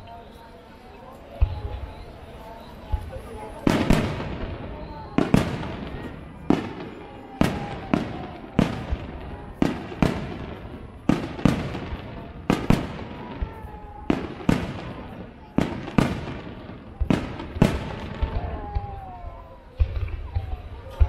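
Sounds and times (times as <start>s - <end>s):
firework shells booming: 2.9s - 21.0s.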